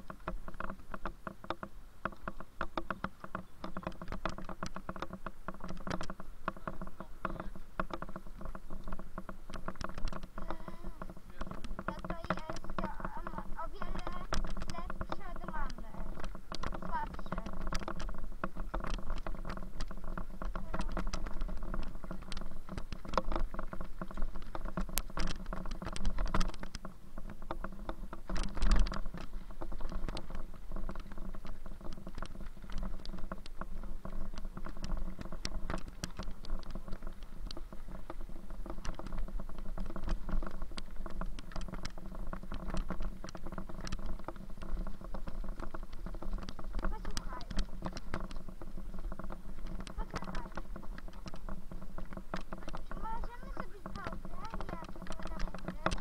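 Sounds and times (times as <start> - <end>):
bicycle rattling and clicking: 0.0 - 56.0
low hum: 0.0 - 56.0.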